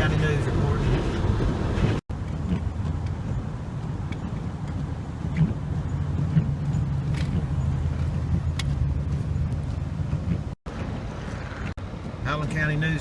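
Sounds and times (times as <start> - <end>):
vehicle engine and road hum: 0.0 - 13.0.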